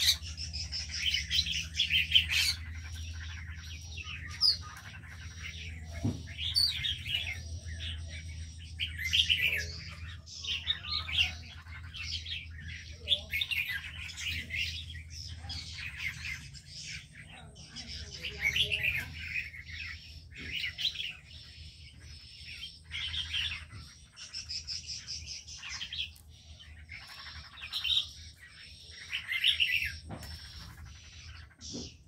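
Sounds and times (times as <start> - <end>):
small birds chirping and twittering: 0.0 - 32.0
steady low hum: 0.0 - 32.0.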